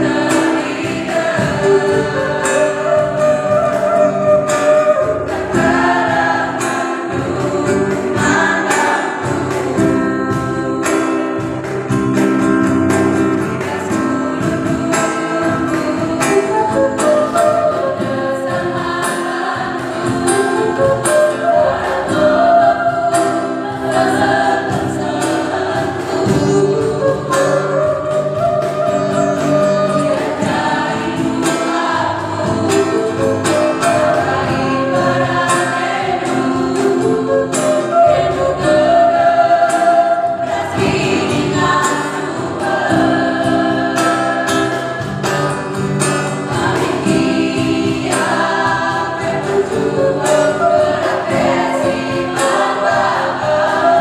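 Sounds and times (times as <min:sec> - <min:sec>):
acoustic guitar: 0:00.0 - 0:54.0
choir singing a hymn: 0:00.0 - 0:54.0.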